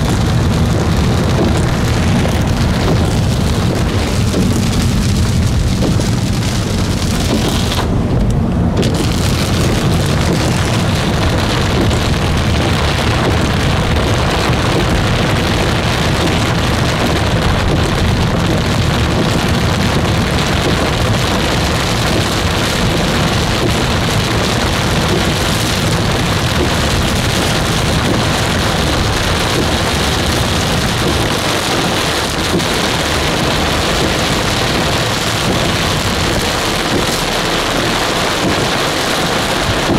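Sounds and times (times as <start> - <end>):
heavy rain pouring: 0.0 - 39.9
low rumble: 0.0 - 39.9.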